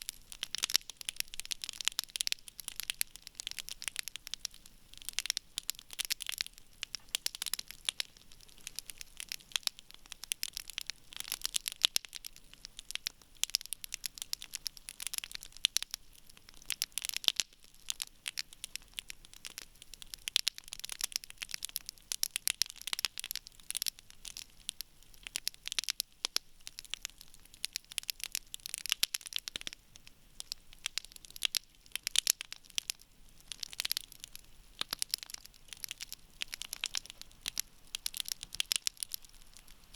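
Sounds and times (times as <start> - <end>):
campfire crackling and popping: 0.0 - 39.9
soft hiss of fire: 0.0 - 39.9.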